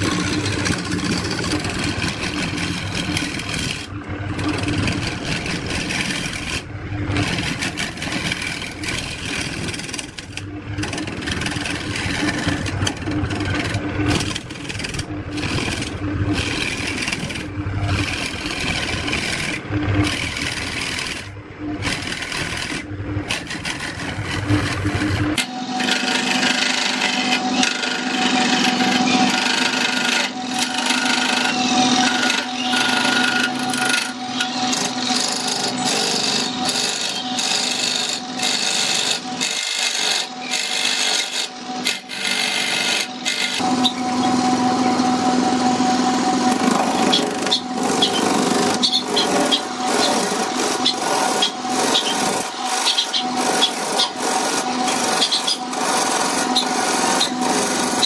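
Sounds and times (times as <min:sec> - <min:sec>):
turning tool scraping wood: 0:00.0 - 0:44.5, 0:46.3 - 0:58.0
lathe motor hum: 0:00.0 - 0:58.0.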